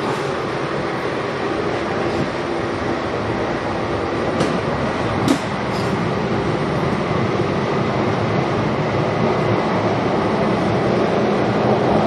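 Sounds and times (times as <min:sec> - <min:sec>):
subway wheels rumbling on rail: 0:00.0 - 0:12.0.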